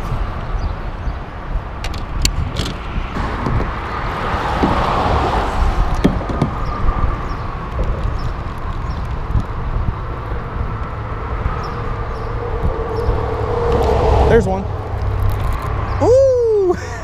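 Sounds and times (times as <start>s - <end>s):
freeway traffic rumbling: 0.0s - 17.0s.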